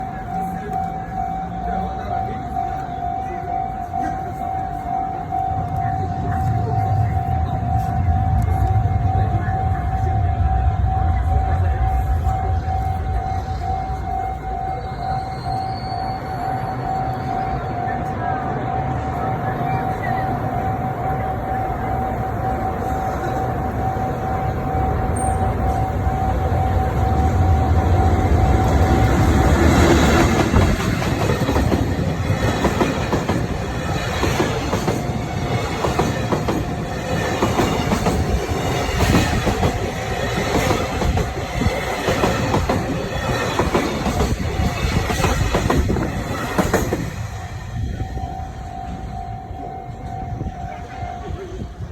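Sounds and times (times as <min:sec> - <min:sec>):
crossing warning bell: 0:00.0 - 0:51.9
heavy low train rumble: 0:00.0 - 0:51.9.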